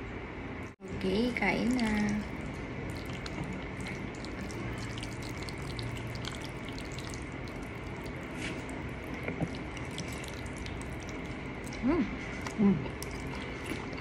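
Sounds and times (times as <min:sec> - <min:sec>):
forks twirling wet spaghetti: 0:01.8 - 0:14.0.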